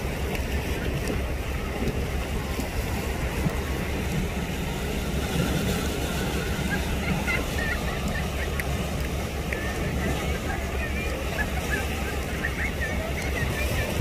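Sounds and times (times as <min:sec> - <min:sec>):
boat engine droning: 0:00.0 - 0:14.0
wind buffeting microphone: 0:00.0 - 0:14.0.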